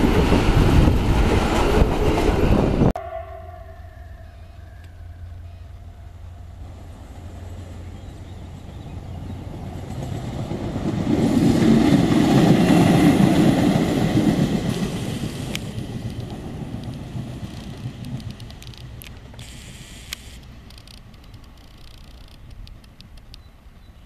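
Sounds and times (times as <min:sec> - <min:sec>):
railcar passing with wheel clatter: 0:00.0 - 0:19.4.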